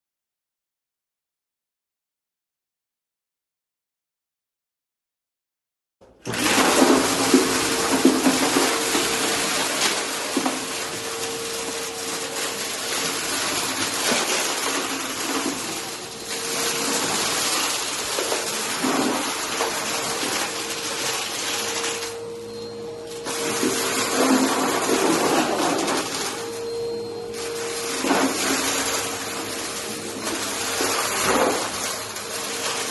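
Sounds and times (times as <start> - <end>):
vacuum cleaner running on carpet: 6.2 - 32.9.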